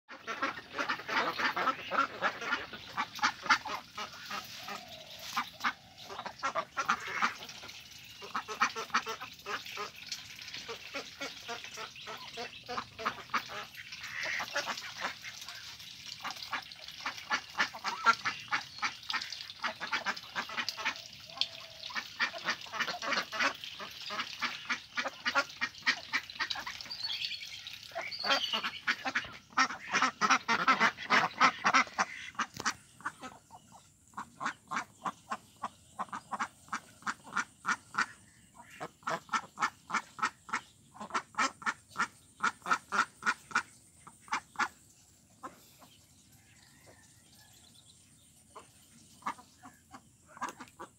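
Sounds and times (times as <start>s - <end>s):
ducks quacking: 0.1s - 44.8s, 48.5s - 50.9s.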